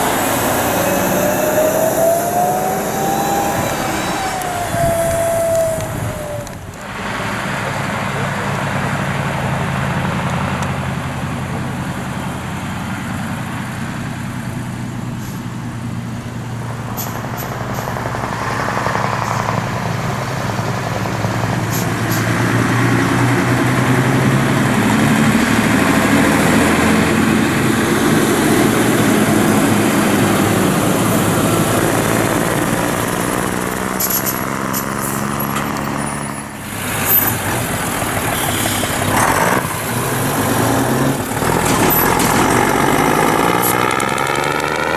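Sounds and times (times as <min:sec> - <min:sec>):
lorry diesel engine running: 0:00.0 - 0:44.9.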